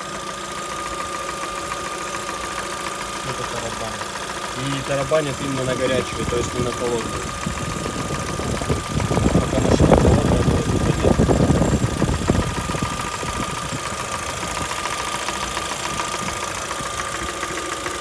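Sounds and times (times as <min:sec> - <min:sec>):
car engine idling: 0:00.0 - 0:18.0
rapid knocking rattle from engine: 0:00.0 - 0:18.0.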